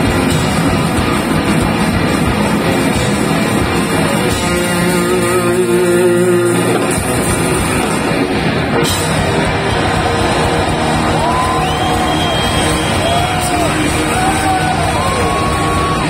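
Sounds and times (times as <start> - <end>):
distorted electric guitars: 0.0 - 16.0
rock drum kit: 0.0 - 16.0.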